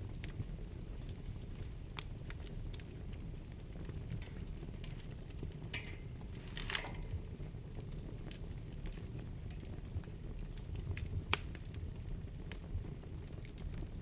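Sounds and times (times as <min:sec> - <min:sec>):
wood fire crackling: 0:00.0 - 0:14.0
hissing crackles: 0:01.4 - 0:14.0.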